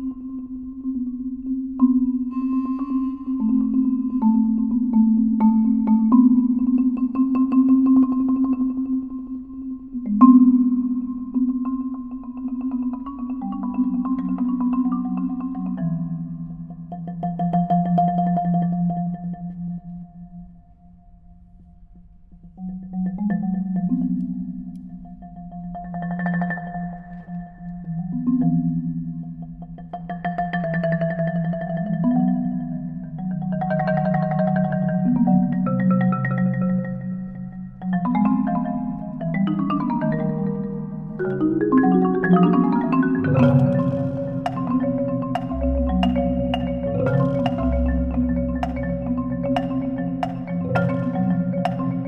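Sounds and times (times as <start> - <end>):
prepared marimbas played with mallets: 0.0 - 52.0.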